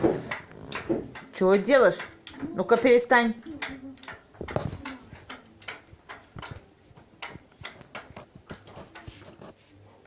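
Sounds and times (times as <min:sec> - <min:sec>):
irregular knocking: 0:00.0 - 0:09.3.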